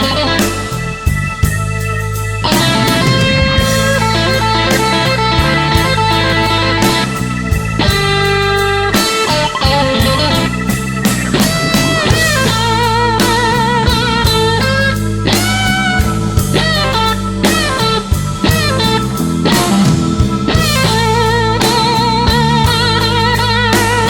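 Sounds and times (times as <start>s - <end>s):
bass and drums: 0.0s - 24.0s
electric guitar solo: 0.0s - 24.0s.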